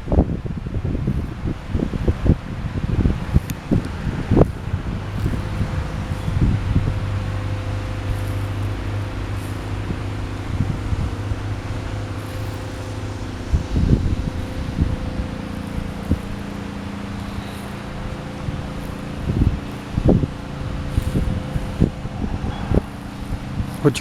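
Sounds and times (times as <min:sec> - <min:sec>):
steady mechanical hum: 0:00.0 - 0:24.0
wind gusting over microphone: 0:00.0 - 0:24.0.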